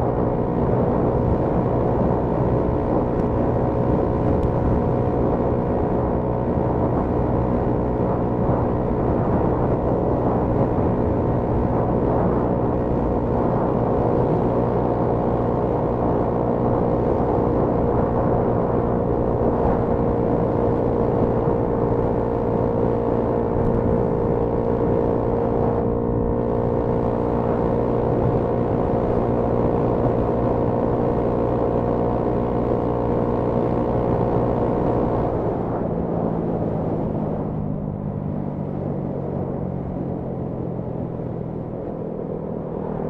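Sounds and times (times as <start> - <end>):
motorcycle engine cruising: 0.0 - 43.0
wind rushing over microphone: 0.0 - 43.0.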